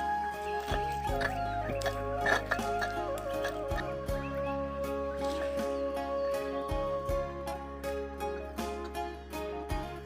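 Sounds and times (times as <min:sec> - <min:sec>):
flute-like melody: 0:00.0 - 0:10.0.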